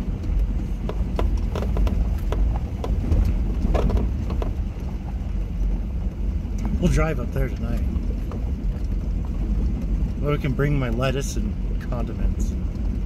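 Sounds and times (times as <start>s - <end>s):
knocks and rattles: 0.0s - 13.0s
vehicle rumbling on dirt road: 0.0s - 13.0s.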